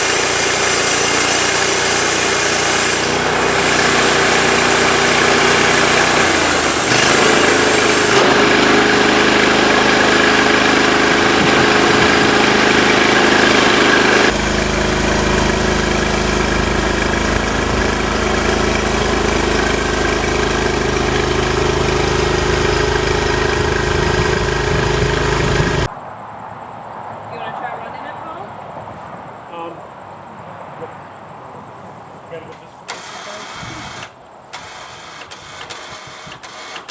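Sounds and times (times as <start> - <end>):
sawmill engine running: 0.0 - 25.9, 32.4 - 36.9.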